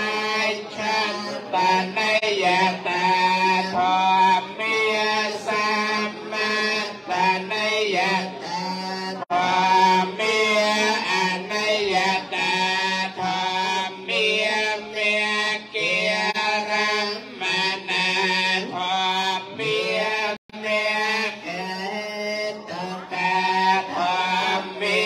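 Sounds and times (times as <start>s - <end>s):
voices chanting: 0.0s - 25.0s.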